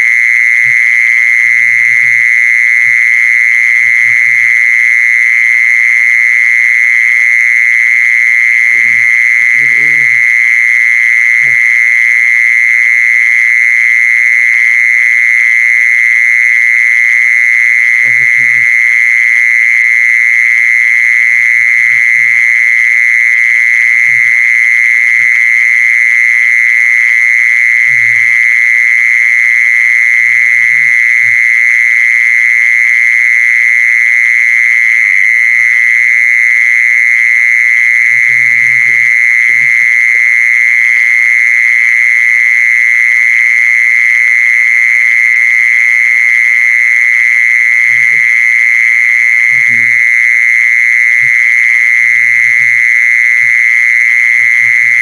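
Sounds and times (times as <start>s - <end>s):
insect high-pitched trill: 0.0s - 55.0s.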